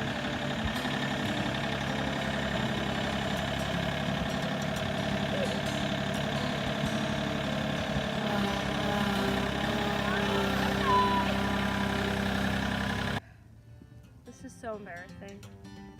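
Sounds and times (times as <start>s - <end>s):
tractor engine running: 0.0s - 13.2s.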